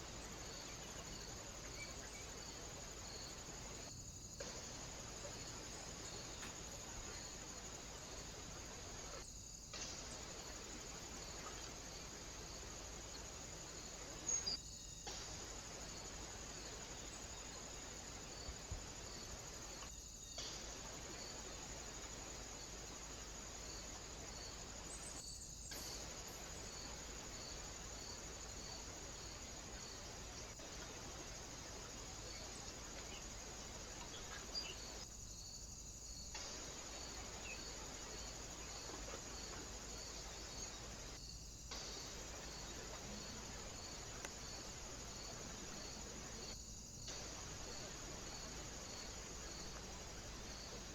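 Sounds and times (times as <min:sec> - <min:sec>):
crickets chirping: 0:00.0 - 0:50.9
low hiss: 0:00.0 - 0:50.9.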